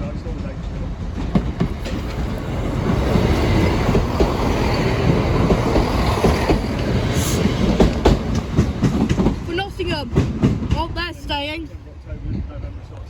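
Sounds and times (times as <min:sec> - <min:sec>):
train rumbling past: 0:00.0 - 0:13.0
wheels clacking over rail joints: 0:00.4 - 0:11.0.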